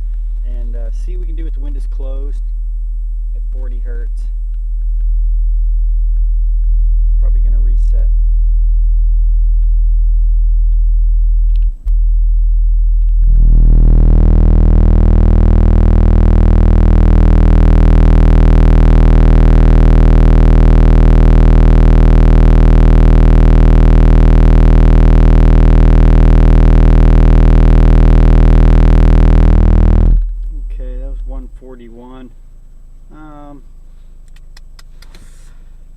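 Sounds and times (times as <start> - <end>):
subwoofer bass tone buzzing: 0.0 - 35.9.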